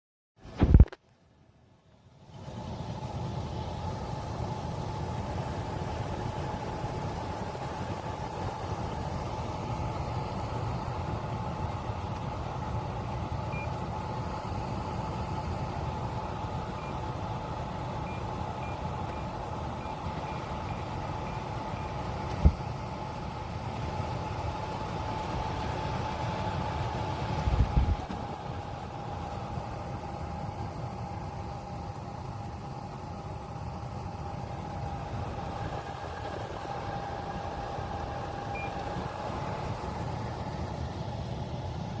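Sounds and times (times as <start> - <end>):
dehumidifier fan drone: 1.9 - 42.0.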